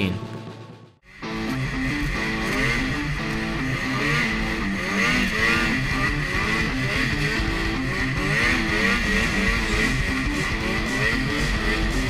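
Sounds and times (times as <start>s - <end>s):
guitar music: 0.0s - 12.0s
snowmobile engine revving: 1.1s - 12.0s.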